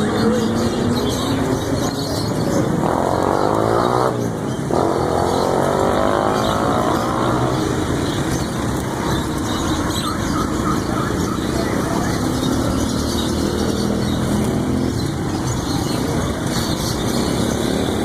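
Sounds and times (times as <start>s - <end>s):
traffic rumble: 0.0s - 18.0s
vehicles passing: 0.0s - 18.0s.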